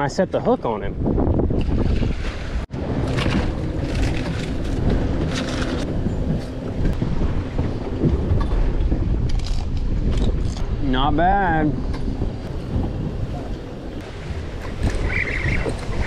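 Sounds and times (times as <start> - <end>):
wind buffeting microphone: 0.0 - 16.0
water washing against hull: 1.0 - 16.0.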